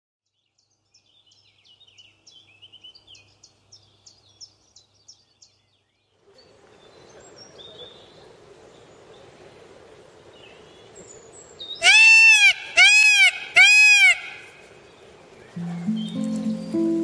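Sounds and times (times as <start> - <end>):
small birds chirping: 0.3 - 12.0, 14.4 - 17.0.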